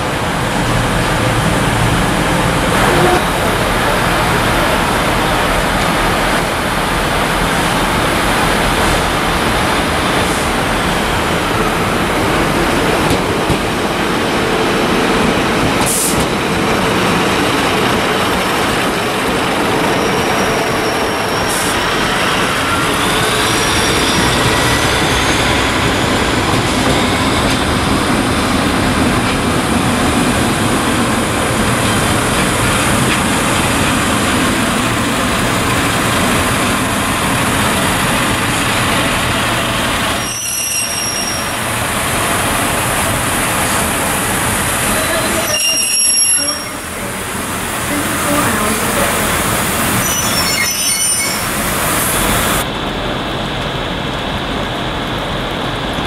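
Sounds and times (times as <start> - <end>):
diesel train engine: 0.0 - 56.0.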